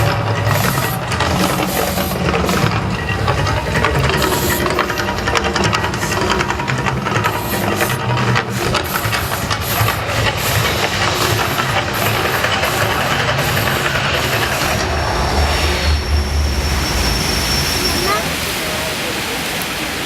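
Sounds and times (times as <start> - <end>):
low rumble: 0.0 - 19.6
volcano show rushing hiss: 0.0 - 20.0.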